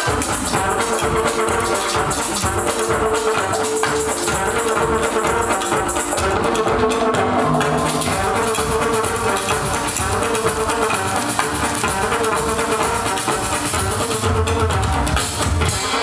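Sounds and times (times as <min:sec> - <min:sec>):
runway music over loudspeakers: 0:00.0 - 0:16.0.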